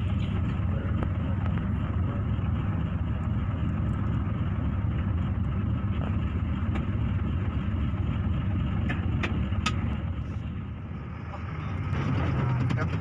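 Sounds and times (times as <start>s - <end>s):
bus diesel engine rumble: 0.0s - 13.0s
road noise: 0.0s - 13.0s.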